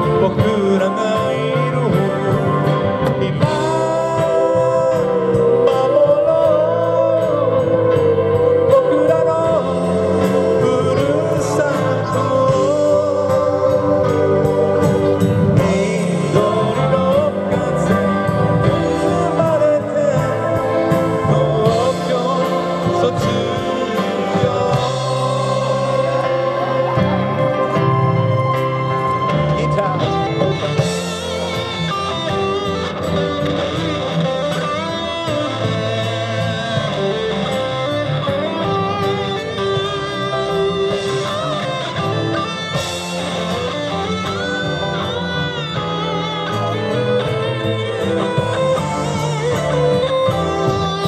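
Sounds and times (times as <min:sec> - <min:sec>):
live band playing amplified music: 0:00.0 - 0:51.0.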